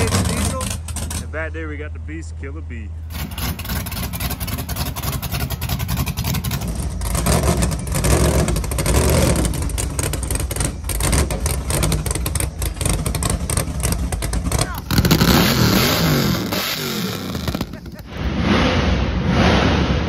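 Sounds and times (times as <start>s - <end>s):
car engine revving: 0.0s - 1.4s, 3.1s - 20.0s.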